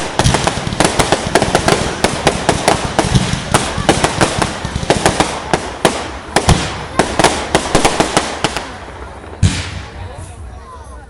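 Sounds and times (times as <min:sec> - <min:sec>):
fireworks cracking and banging: 0:00.0 - 0:10.5.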